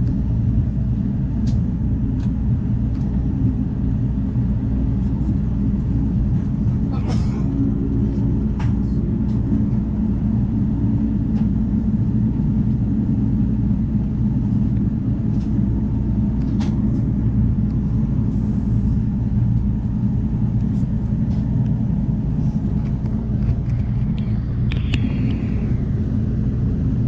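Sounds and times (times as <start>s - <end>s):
train rumble from inside coach: 0.0s - 27.0s.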